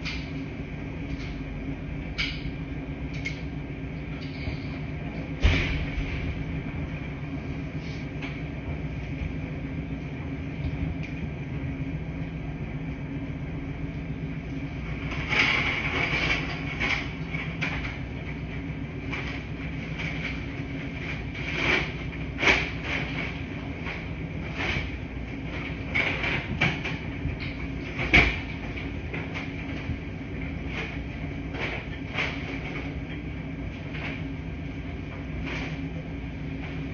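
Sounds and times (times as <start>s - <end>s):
laundry machine humming: 0.0s - 36.9s.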